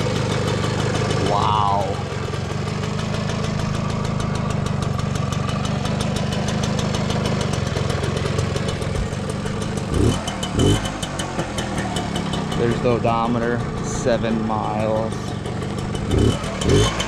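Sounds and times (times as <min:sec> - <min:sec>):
moped engine idling: 0:00.0 - 0:17.0.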